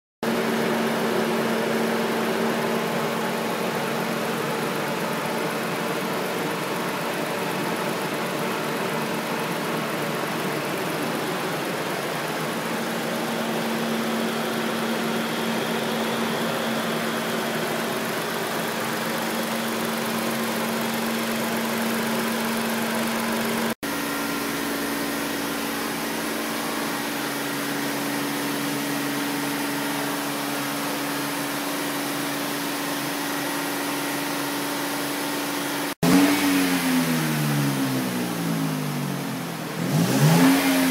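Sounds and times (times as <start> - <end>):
car engine idling: 0.3 - 40.8.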